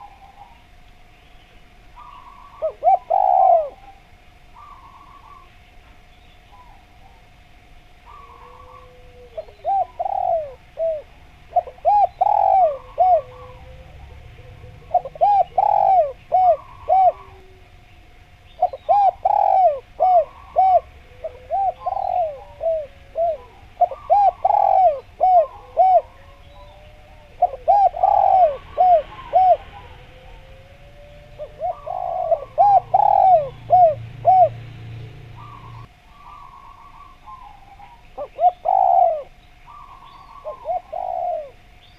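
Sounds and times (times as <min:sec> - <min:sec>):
dove cooing song: 0:00.0 - 0:41.9.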